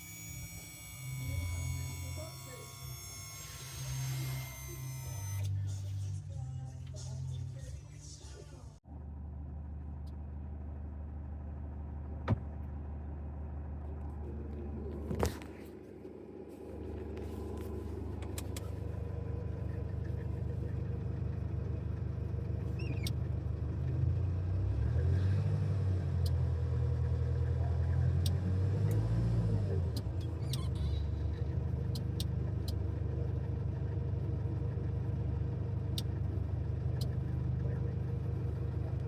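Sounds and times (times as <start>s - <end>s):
van engine running: 0.0s - 39.0s.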